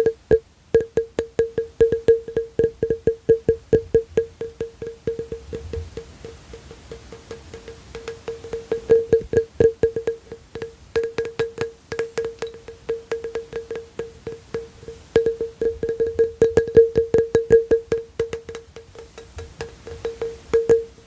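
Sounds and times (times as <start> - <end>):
fingertip tapping on ringing object: 0.0 - 21.0.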